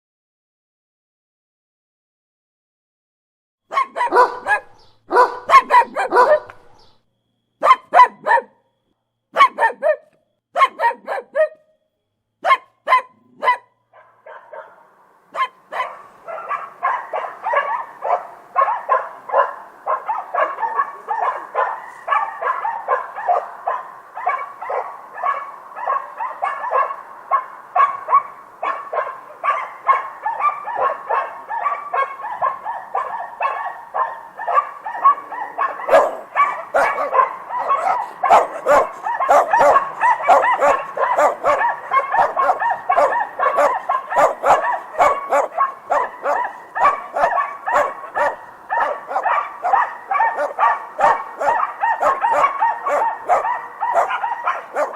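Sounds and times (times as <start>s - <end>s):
dog barking: 3.7s - 6.9s, 7.6s - 8.6s, 9.3s - 11.8s, 12.4s - 54.9s.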